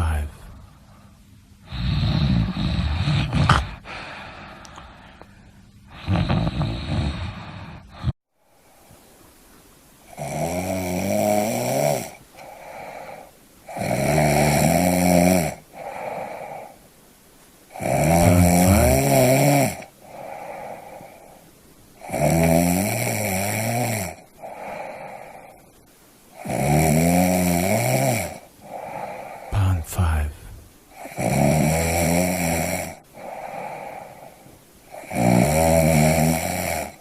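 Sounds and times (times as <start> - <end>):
person snoring: 1.6 - 5.2, 5.9 - 8.2, 10.1 - 16.8, 17.7 - 21.4, 22.0 - 25.7, 26.3 - 37.0.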